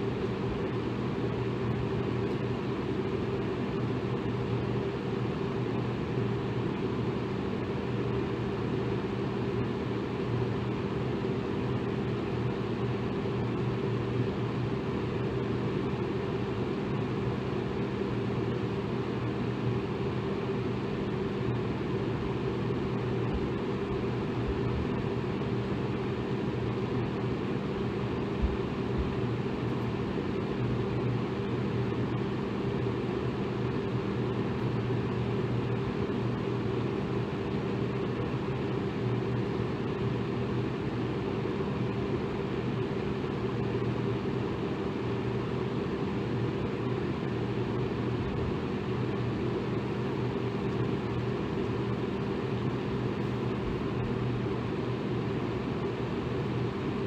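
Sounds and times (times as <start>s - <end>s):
electric fan whooshing: 0.0s - 57.0s.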